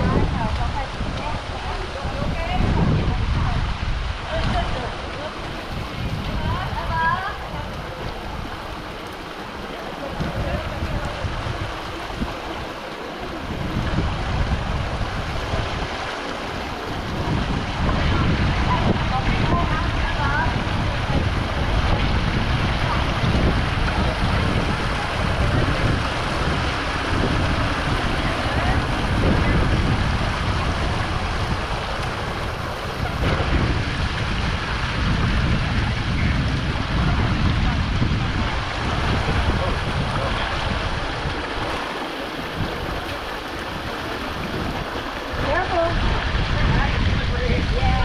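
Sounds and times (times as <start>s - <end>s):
water rushing at waterfall: 0.0s - 48.0s
wind rumbling on microphone: 0.0s - 48.0s.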